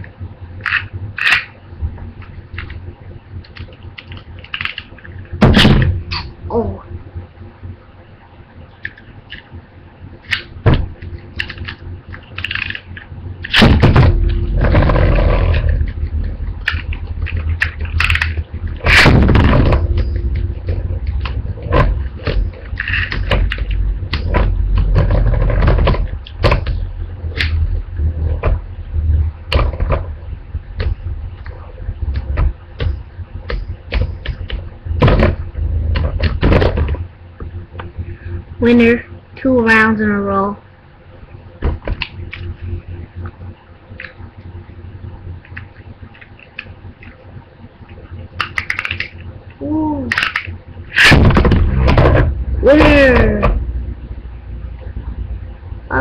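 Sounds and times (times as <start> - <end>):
spinning tops scraping and rumbling: 0.0 - 6.5, 8.8 - 40.6, 41.2 - 56.0.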